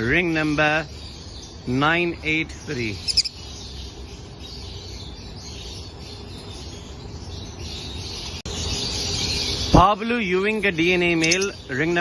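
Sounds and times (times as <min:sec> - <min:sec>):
lovebirds chattering and chirping: 0:00.0 - 0:12.0.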